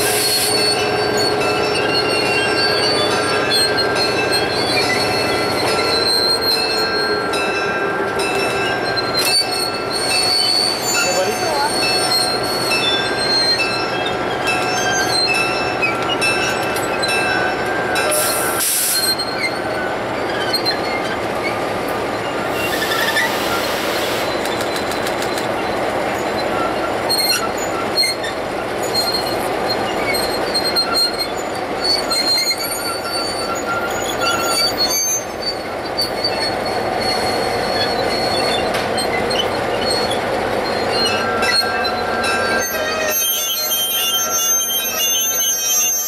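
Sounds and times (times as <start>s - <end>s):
high-pitched brake squeals: 0.0s - 21.6s, 22.2s - 46.0s
diesel locomotive rolling slowly: 0.0s - 46.0s.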